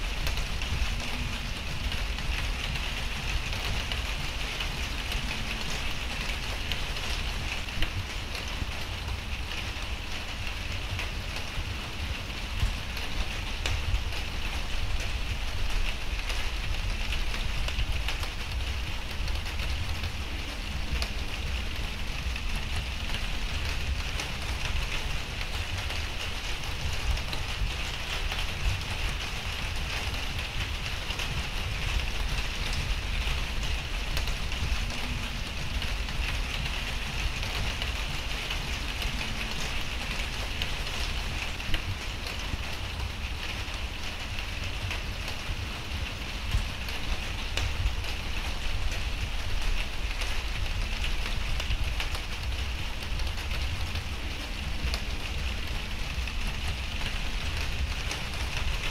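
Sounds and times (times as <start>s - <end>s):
low rumble: 0.0s - 58.9s
raindrops ticking: 0.0s - 58.9s
steady rain falling: 0.0s - 58.9s.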